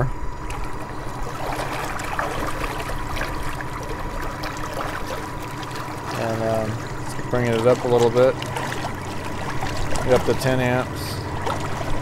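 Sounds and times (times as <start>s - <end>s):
electric outboard motor churning water: 0.0s - 12.0s
thin steady whine: 0.0s - 12.0s.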